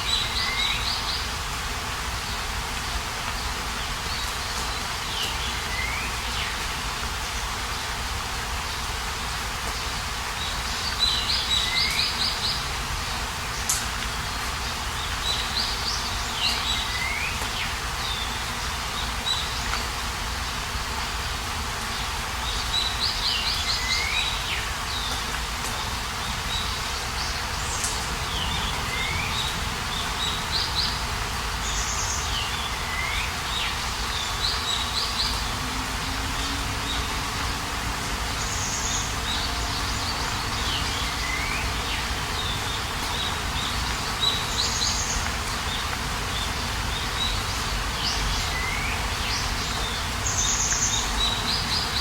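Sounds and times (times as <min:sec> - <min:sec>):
songbird singing: 0:00.0 - 0:01.5, 0:02.1 - 0:08.0, 0:09.7 - 0:52.0
outdoor background hiss: 0:00.0 - 0:52.0.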